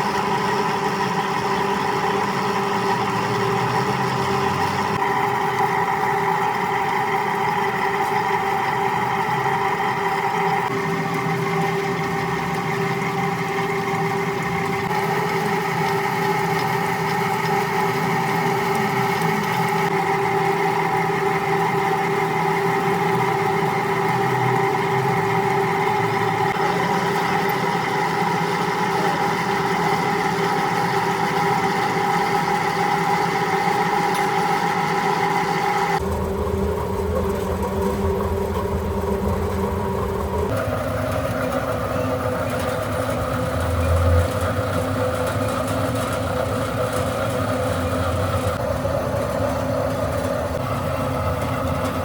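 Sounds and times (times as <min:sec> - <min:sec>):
metal lathe whining: 0:00.0 - 0:52.0.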